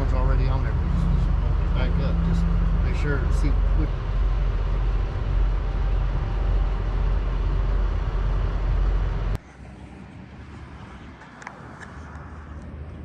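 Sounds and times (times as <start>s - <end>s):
heavy vehicle rumble: 0.0s - 13.0s
outdoor background: 0.0s - 13.0s.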